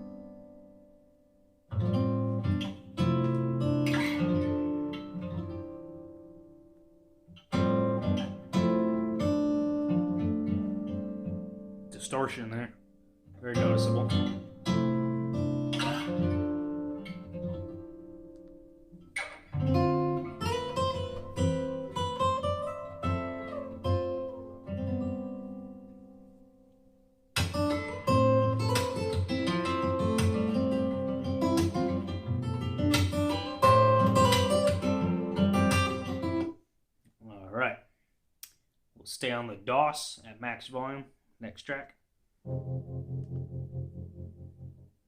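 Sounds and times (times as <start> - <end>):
distorted acoustic guitar music: 0.0 - 36.6, 42.4 - 45.0.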